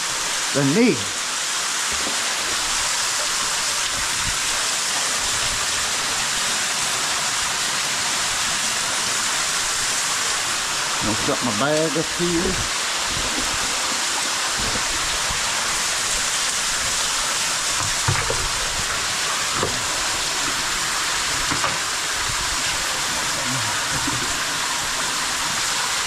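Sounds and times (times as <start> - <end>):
waterfall rushing into cave pit: 0.0 - 26.0.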